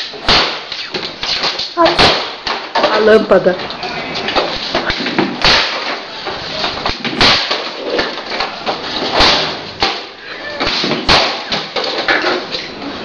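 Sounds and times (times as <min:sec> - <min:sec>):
pressure washer slammed cracking: 0:00.0 - 0:03.0, 0:04.4 - 0:06.1, 0:06.8 - 0:12.5.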